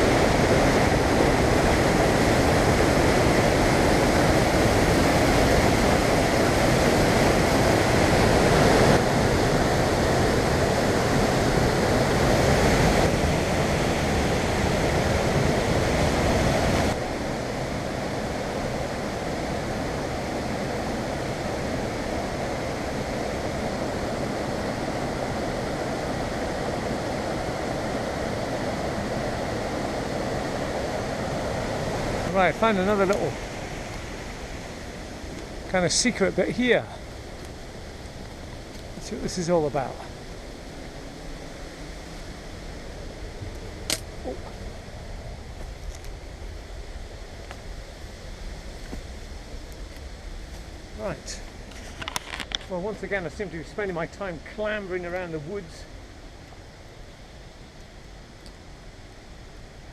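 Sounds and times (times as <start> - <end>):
waterfall rushing: 0.0 - 49.4.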